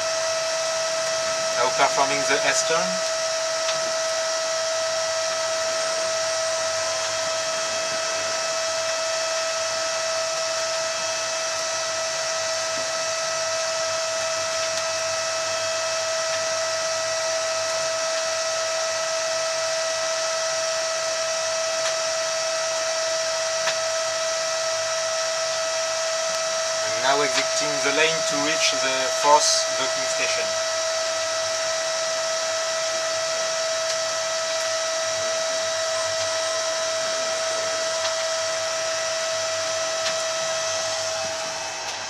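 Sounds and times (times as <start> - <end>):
electric motor whine: 0.0 - 42.0.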